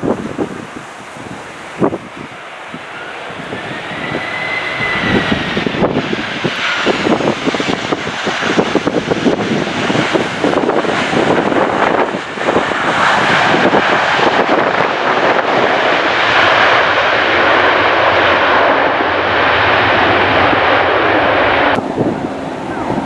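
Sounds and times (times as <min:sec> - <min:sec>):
airliner engines rushing: 0:00.0 - 0:23.0
wind buffeting microphone: 0:00.0 - 0:23.0.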